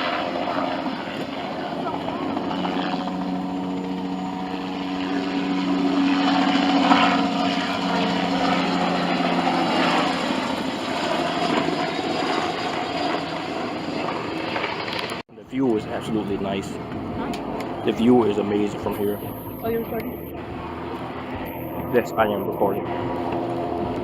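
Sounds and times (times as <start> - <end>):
helicopter engine and rotors drone: 0.0 - 24.0.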